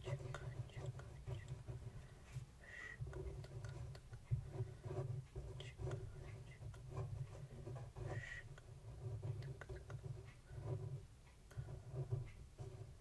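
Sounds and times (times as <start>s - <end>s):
pen scratching on paper: 0.0s - 13.0s.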